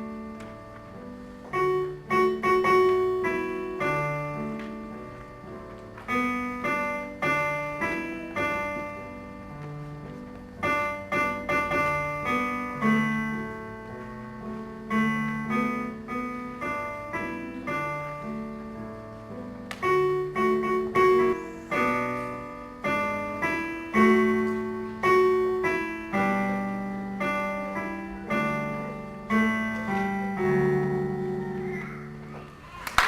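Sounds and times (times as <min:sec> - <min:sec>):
keyboard melody: 0:00.0 - 0:32.8.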